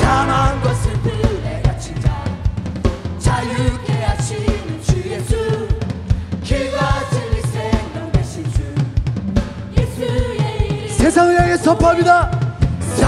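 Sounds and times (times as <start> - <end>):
drum kit beat: 0.0 - 13.0
live band music: 0.0 - 13.0.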